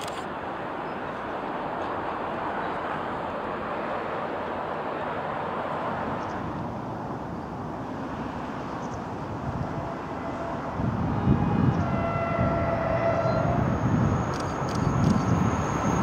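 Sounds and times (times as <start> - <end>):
diesel locomotive engine under load: 0.0 - 16.0
wheels rumbling on rail: 0.0 - 16.0.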